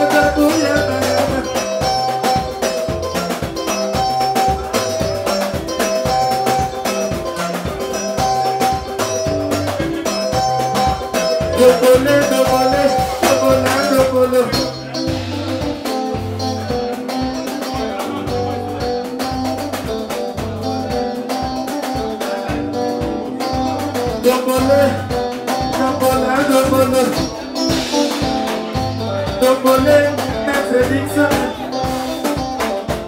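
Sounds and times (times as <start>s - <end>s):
person singing: 0.0s - 3.2s, 4.5s - 33.0s
electric guitar lines: 0.0s - 33.0s
pulsing bass: 0.0s - 33.0s.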